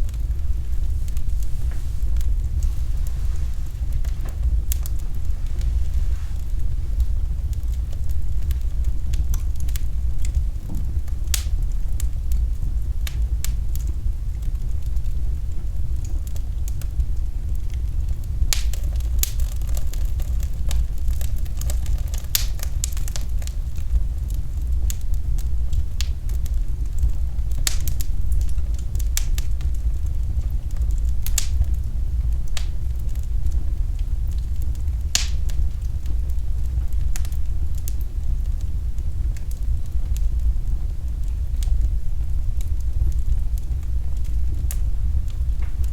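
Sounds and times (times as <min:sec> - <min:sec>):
fire crackling: 0:00.0 - 0:45.9
low fire rumble: 0:00.0 - 0:45.9.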